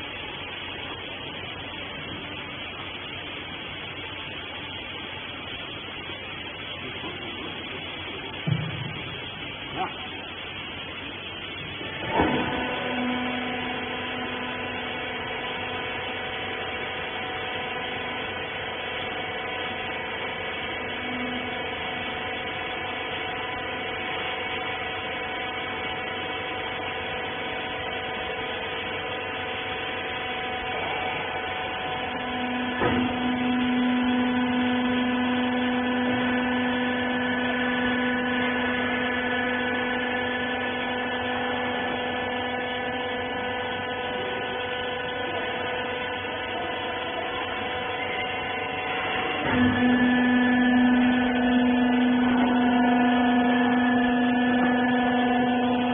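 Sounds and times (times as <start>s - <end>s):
pump motor humming whine: 0.0s - 55.9s.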